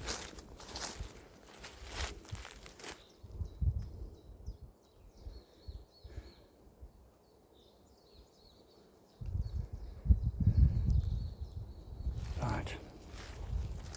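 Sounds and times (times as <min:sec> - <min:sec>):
songbirds chirping: 0:00.0 - 0:13.9.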